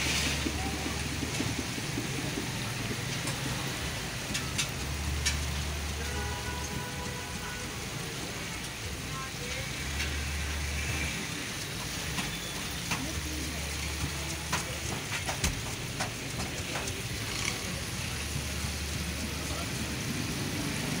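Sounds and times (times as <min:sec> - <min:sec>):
oil sizzling in deep fryer: 0:00.0 - 0:21.0.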